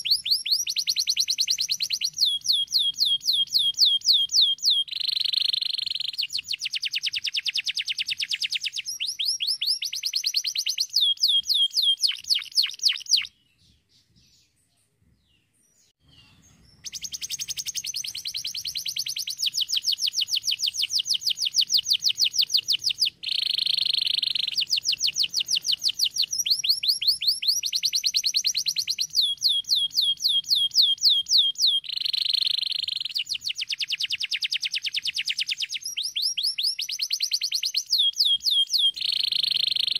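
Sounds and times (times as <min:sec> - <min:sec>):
canary singing rapid trills: 0:00.0 - 0:13.4, 0:16.0 - 0:39.9.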